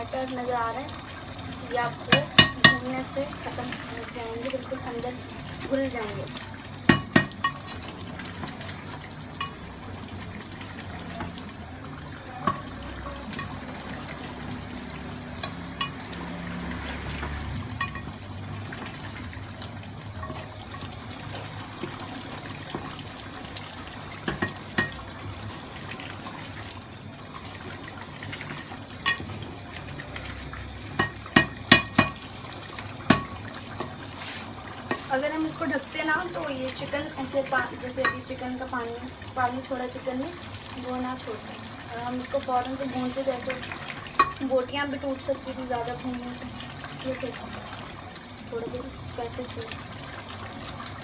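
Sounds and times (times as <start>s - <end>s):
gravy frying in a pot: 0.0s - 51.0s.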